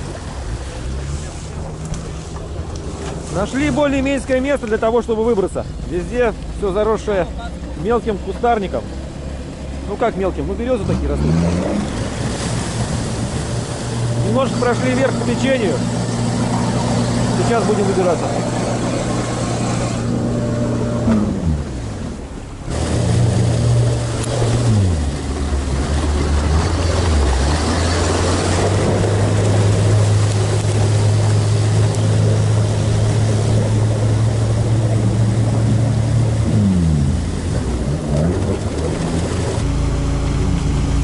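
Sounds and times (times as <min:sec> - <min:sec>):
churning water: 0:00.0 - 0:41.0
diesel engine working hard: 0:00.0 - 0:41.0.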